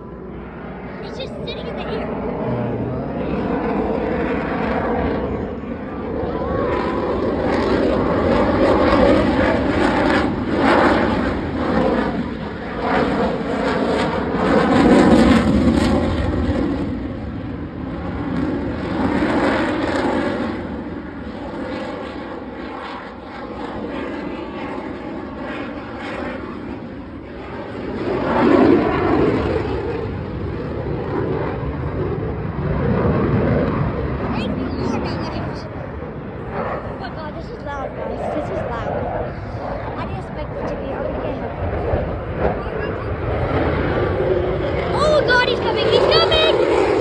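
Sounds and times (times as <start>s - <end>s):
fighter jet roar: 0.0s - 47.0s.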